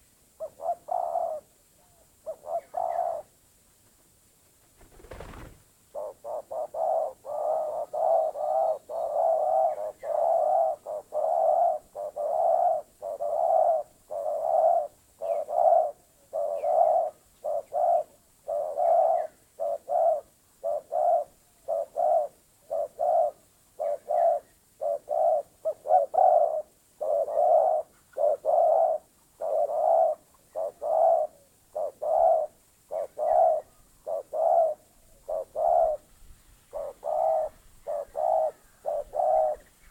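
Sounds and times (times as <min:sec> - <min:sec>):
dove cooing: 0:00.0 - 0:03.4, 0:04.8 - 0:36.1, 0:36.7 - 0:39.9.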